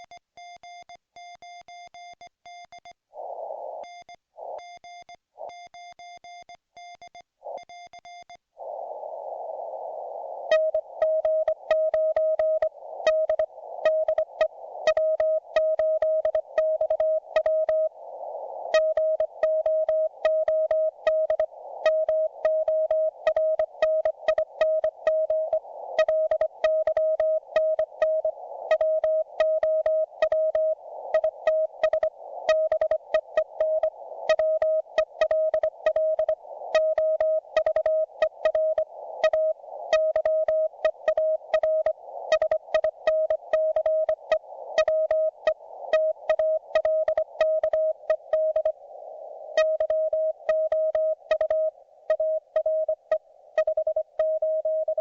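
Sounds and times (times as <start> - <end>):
receiver hiss: 2.5 - 55.0.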